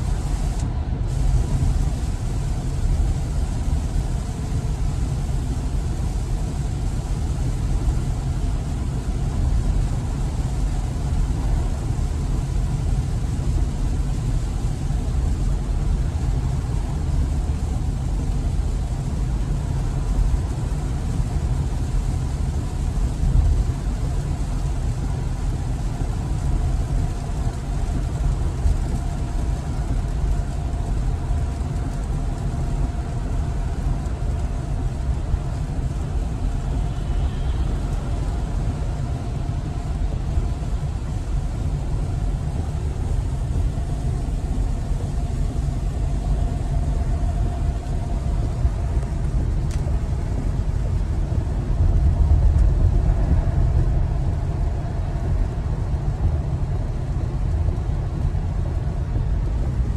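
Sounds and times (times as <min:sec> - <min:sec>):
road and tyre noise in car: 0:00.0 - 0:59.9.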